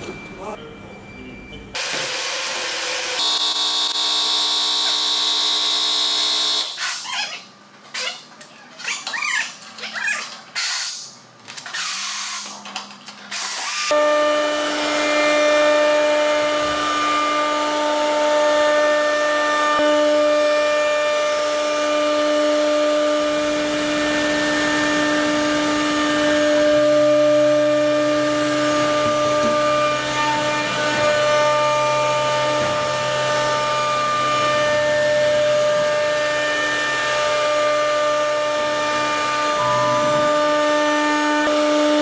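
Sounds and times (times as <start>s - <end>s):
router spindle whine: 1.8s - 7.0s, 13.4s - 42.0s.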